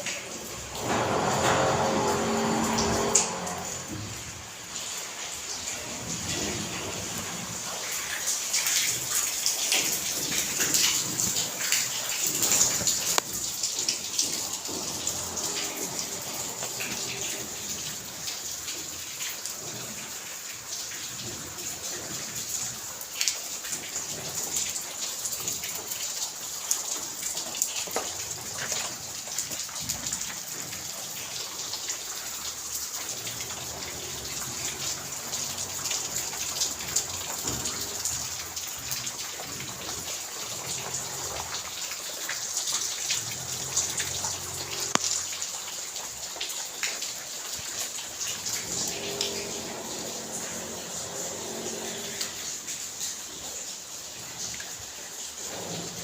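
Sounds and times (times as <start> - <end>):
raindrops ticking on surfaces: 0.0 - 56.0
steady rain: 0.0 - 56.0.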